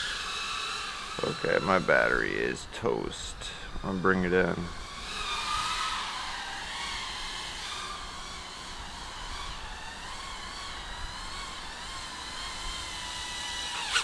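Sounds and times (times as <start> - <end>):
high-pitched drone motor whine: 0.0 - 14.0.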